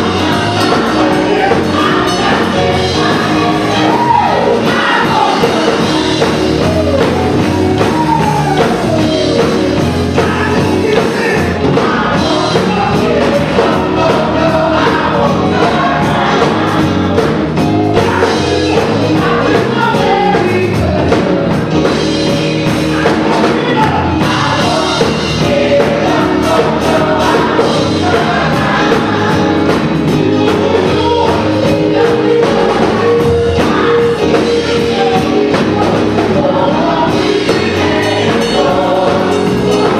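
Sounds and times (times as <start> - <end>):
gospel choir singing: 0.0 - 39.9
live band playing: 0.0 - 39.9.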